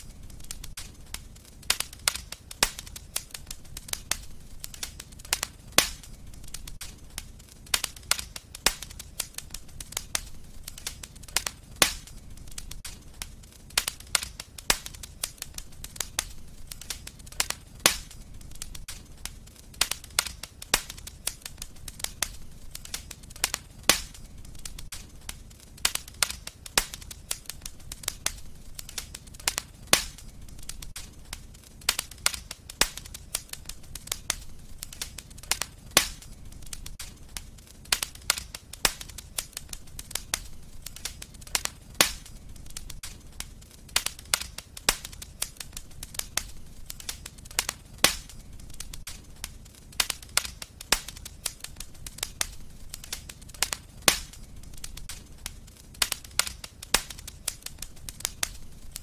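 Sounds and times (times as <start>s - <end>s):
fire crackling: 0.0s - 59.0s
sharp pops of fire: 0.0s - 59.0s.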